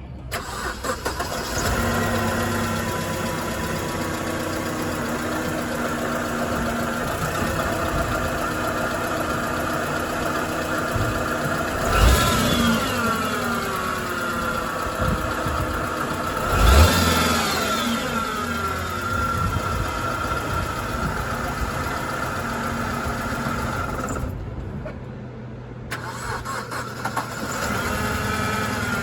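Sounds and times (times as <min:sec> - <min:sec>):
car engine whining: 0:00.0 - 0:29.0.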